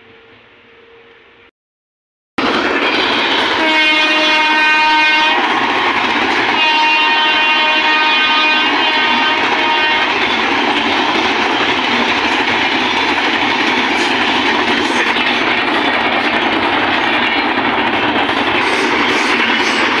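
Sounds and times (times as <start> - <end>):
passenger train passing at speed: 0.0 - 1.5, 2.4 - 20.0.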